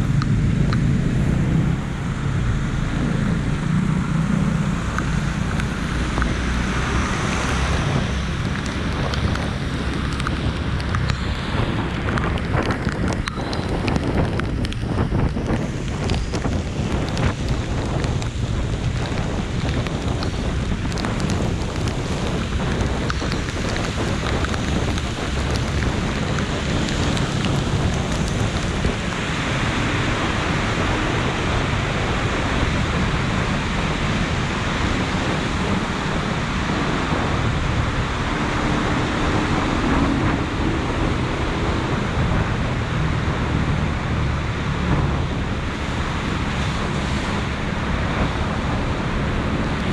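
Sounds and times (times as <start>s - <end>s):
heavy rain: 0.0s - 49.9s
wind buffeting microphone: 0.0s - 49.9s.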